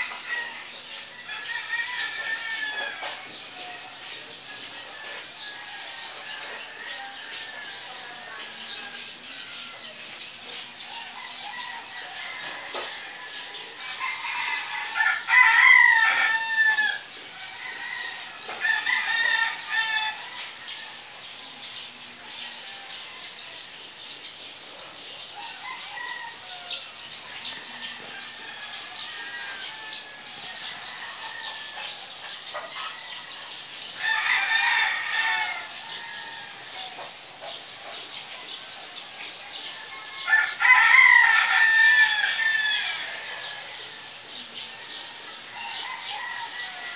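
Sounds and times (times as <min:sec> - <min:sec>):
rooster crowing: 0:00.0 - 0:21.6, 0:25.2 - 0:37.0, 0:38.4 - 0:46.9
chicken calls: 0:00.0 - 0:46.9.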